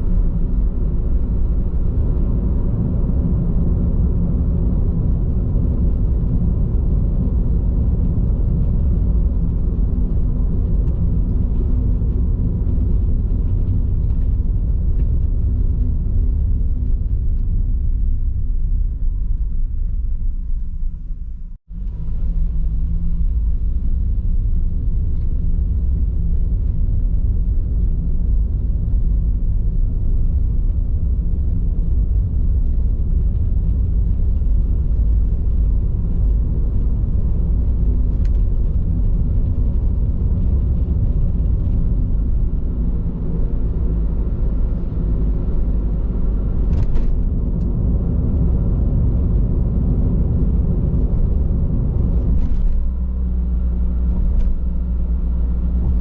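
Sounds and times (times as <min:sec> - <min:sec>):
road noise inside car: 0:00.0 - 0:56.0.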